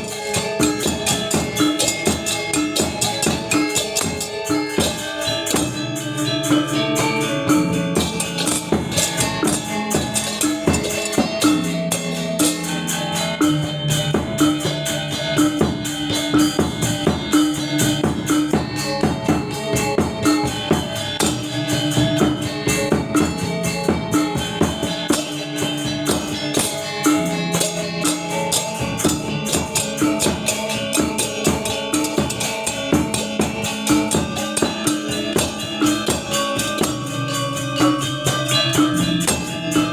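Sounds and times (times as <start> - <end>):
drums: 0.0 - 39.9
metallophones ringing: 0.0 - 39.9
small cymbals: 0.0 - 39.9.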